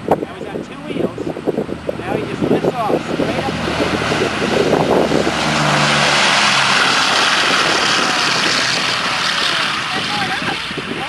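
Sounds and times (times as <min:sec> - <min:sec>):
propeller plane passing: 0:00.0 - 0:11.0.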